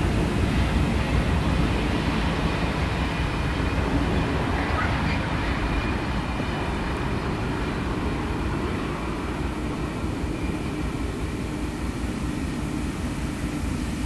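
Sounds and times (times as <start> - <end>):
diesel train rumble: 0.0 - 14.0
steady hum: 0.0 - 14.0.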